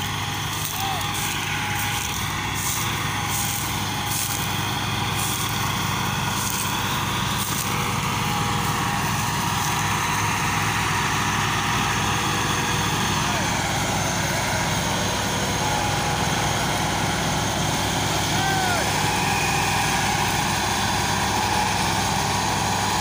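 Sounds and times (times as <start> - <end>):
tractor diesel engines under load: 0.0 - 23.0.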